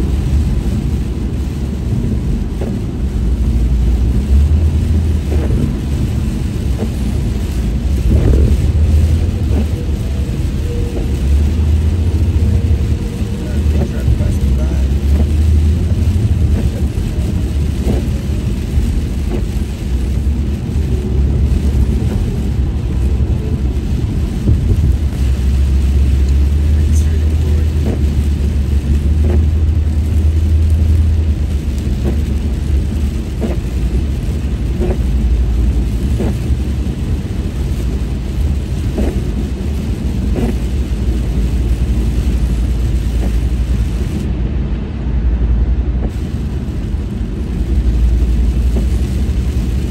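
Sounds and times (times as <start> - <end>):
tyres hissing on wet pavement: 0.0 - 44.4, 45.1 - 49.9
car road and engine rumble: 0.0 - 49.9.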